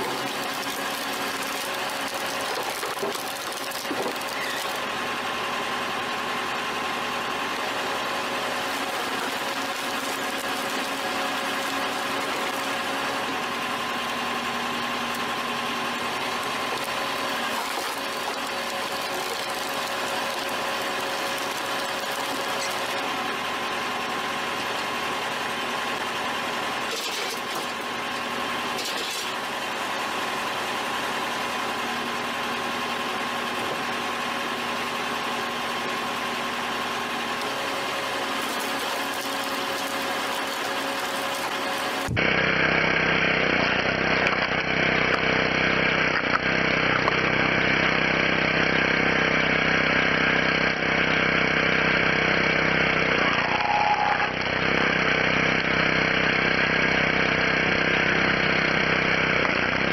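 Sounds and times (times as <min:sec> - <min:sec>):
hydraulic log splitter whine: 0:00.0 - 0:59.9.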